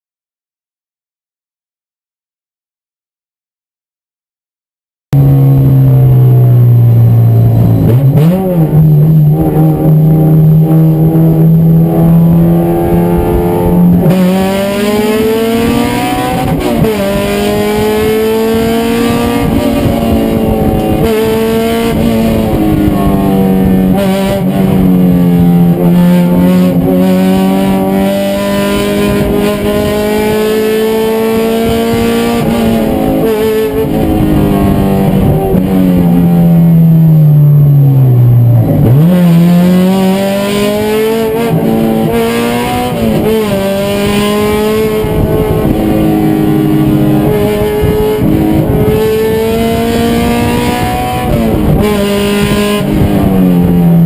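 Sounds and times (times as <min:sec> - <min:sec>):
race car engine revving: 0:05.2 - 0:54.0.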